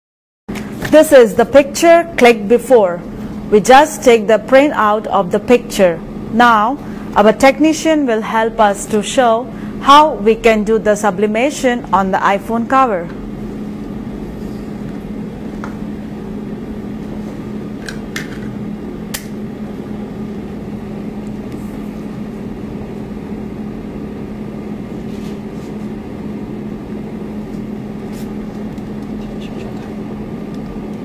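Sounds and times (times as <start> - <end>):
electrical hum: 0.5 - 31.0.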